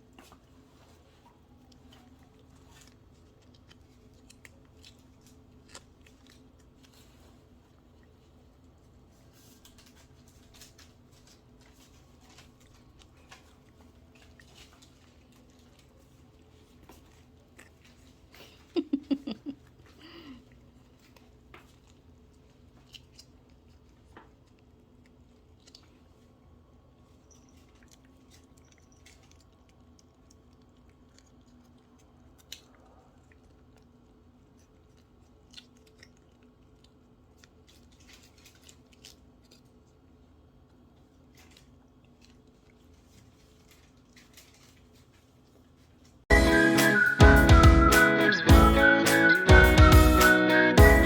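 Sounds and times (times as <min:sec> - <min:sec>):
cats crunching treats: 0:00.0 - 0:46.2.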